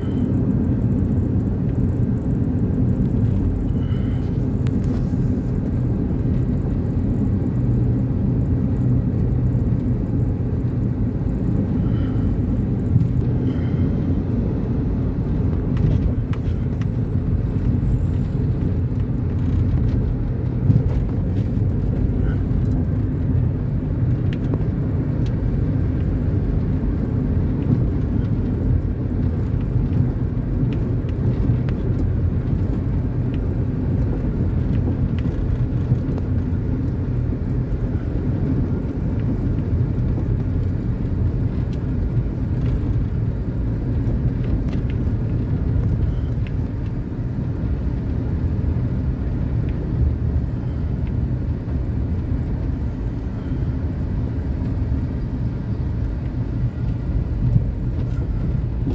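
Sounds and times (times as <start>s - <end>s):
vehicle engine and road noise: 0.0s - 58.9s.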